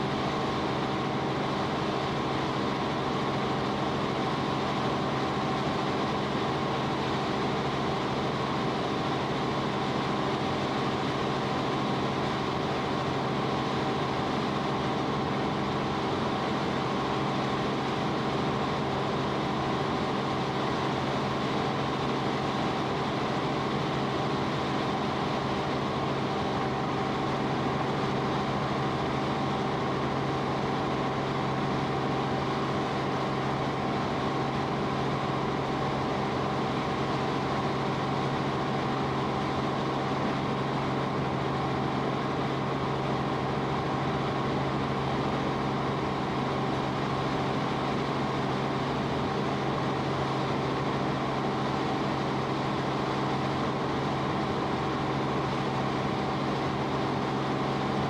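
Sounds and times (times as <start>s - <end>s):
aircraft engine drone in cabin: 0.0s - 58.0s.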